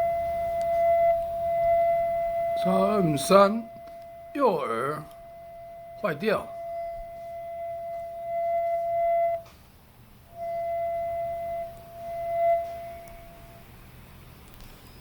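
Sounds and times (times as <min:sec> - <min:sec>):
whistle-like tone from earbud: 0:00.0 - 0:09.6, 0:10.2 - 0:13.8.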